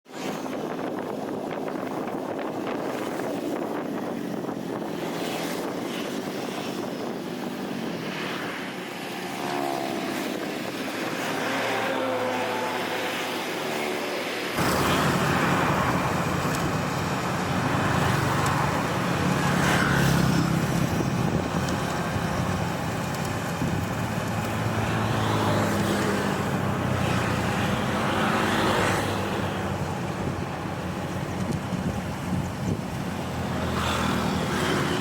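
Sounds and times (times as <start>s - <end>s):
engine running: 0.5s - 35.0s.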